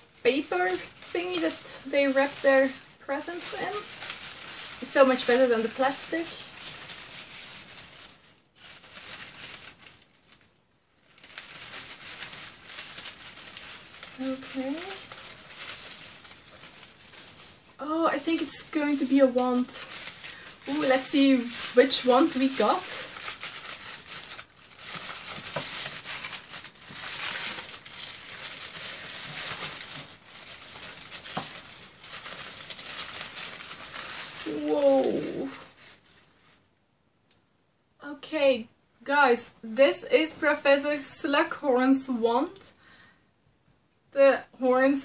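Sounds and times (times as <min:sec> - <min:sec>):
paper wrapping crackling: 0:00.0 - 0:36.7.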